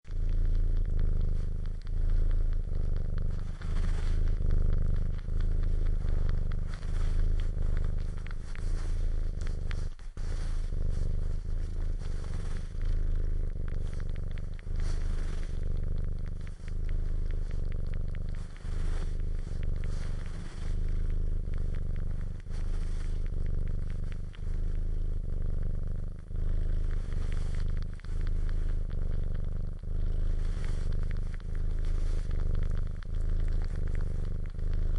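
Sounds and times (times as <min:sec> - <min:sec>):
cat purring: 0:00.0 - 0:34.9
cat suckling clicks: 0:00.1 - 0:34.9.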